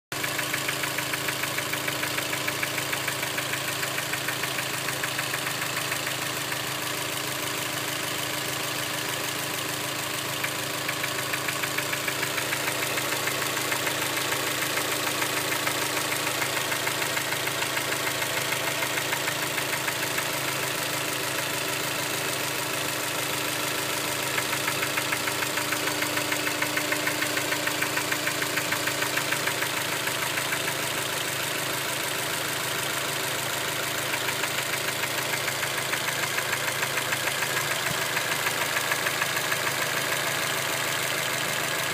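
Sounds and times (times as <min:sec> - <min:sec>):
engine idling: 0:00.1 - 0:41.9
rapid engine knock: 0:00.2 - 0:41.9.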